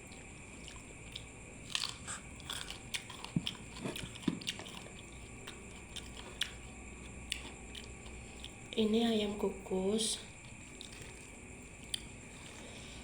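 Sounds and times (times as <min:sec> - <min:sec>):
biting and chewing crunches: 0:00.0 - 0:08.7, 0:10.4 - 0:13.0.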